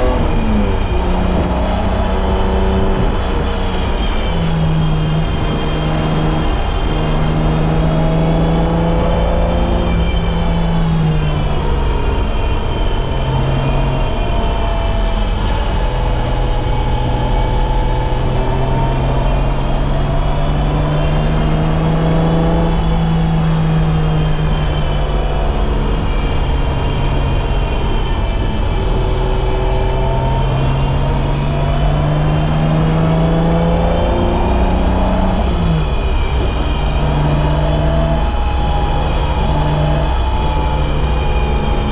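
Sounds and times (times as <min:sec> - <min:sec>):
car engine revving hard: 0:00.0 - 0:41.9.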